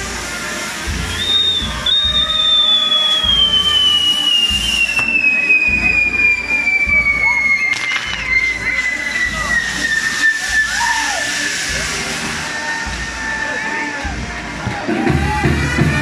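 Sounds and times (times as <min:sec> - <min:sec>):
hiss of burning fireworks: 0:00.0 - 0:16.0
firework whistle falling in pitch: 0:00.8 - 0:14.2.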